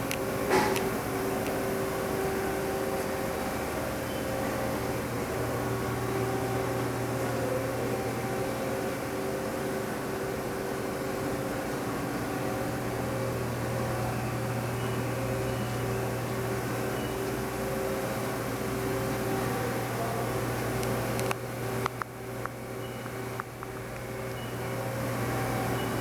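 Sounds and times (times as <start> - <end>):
machining centre humming: 0.0 - 26.0.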